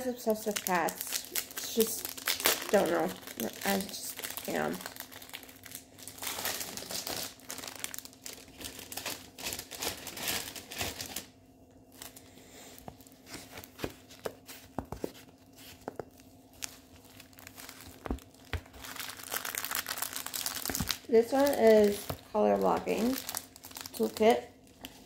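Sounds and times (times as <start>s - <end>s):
faint steady hum: 0.0s - 25.0s
packaging crinkling and rustling: 0.0s - 25.0s.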